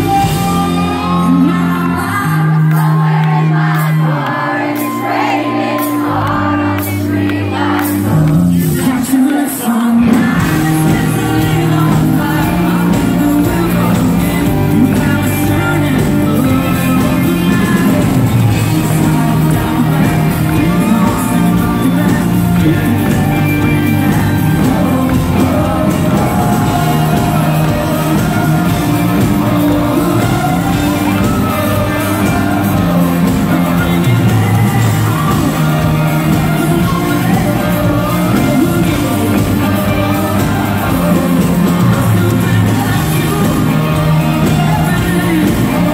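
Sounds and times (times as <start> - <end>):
electric guitar: 0.0 - 45.9
live rock band: 0.0 - 45.9
man singing: 0.0 - 45.9.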